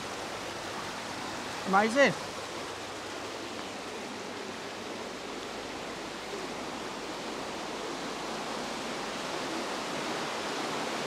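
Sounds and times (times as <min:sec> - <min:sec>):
brook water rushing: 0:00.0 - 0:11.0.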